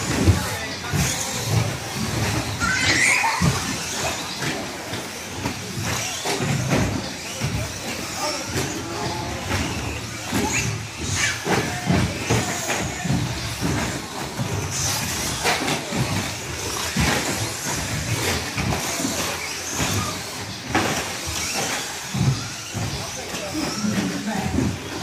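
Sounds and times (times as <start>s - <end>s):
electric motors and tyres whining: 0.0s - 25.0s
knocks and clatter: 0.0s - 25.0s.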